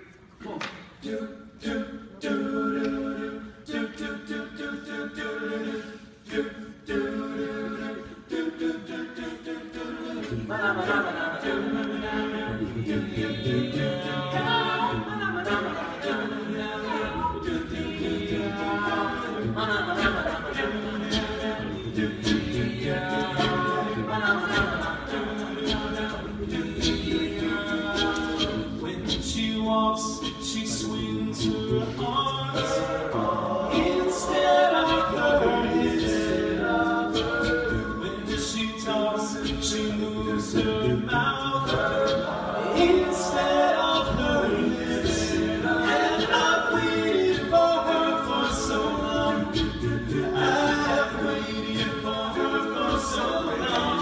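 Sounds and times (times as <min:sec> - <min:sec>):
male a cappella group singing: 0:00.0 - 0:54.0.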